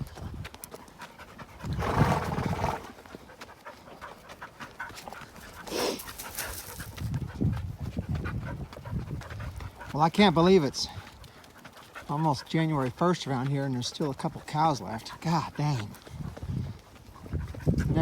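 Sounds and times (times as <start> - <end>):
dog panting: 0.0 - 1.8, 2.9 - 18.0.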